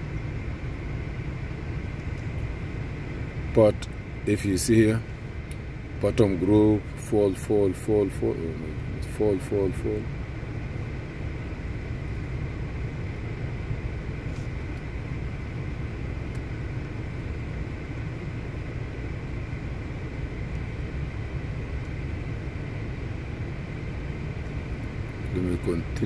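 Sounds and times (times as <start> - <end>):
faint high whine: 0.0 - 26.0
low rumble inside car: 0.0 - 26.0.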